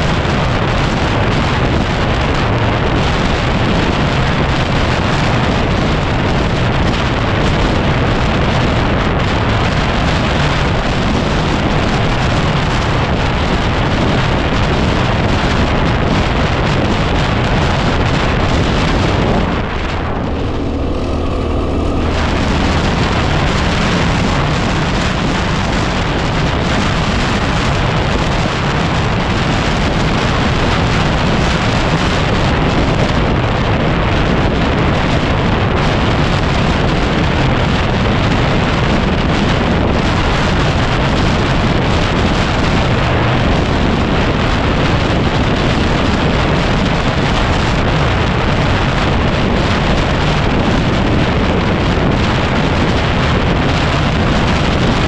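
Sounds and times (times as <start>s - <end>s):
wind buffeting on microphone: 0.0s - 55.0s.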